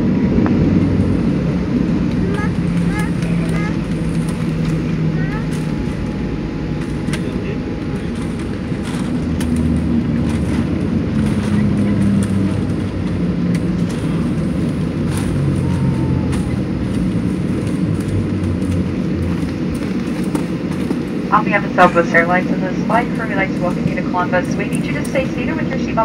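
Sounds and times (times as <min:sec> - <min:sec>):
jet rumble on runway: 0:00.0 - 0:26.0.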